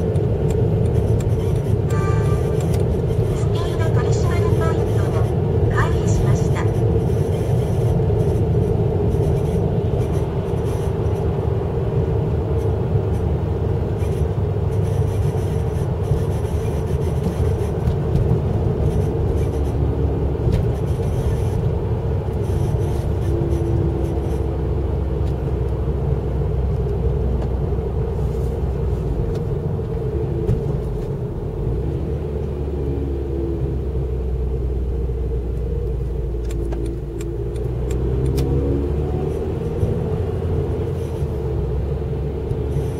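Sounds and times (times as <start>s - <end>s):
car engine rumbling: 0.0s - 42.9s.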